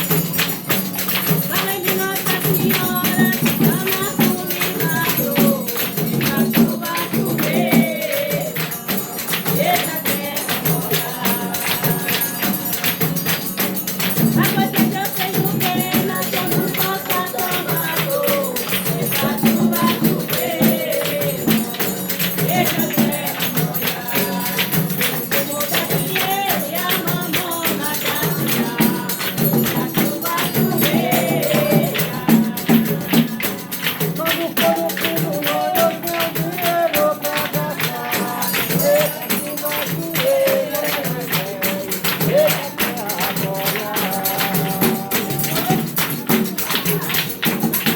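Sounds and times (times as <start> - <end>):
tambourine and hand percussion: 0.0 - 47.9
voices singing: 0.0 - 47.9.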